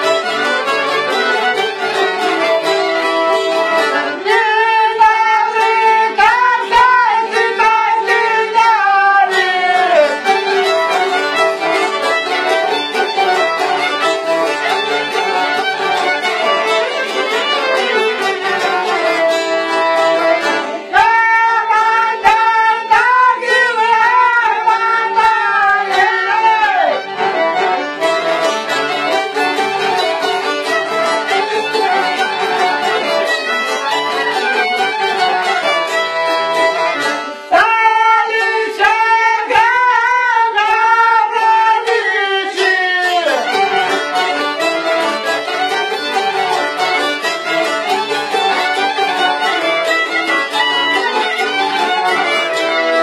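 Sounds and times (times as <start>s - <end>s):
accordion: 0.0s - 53.0s
violin-like melody with vibrato: 0.0s - 53.0s.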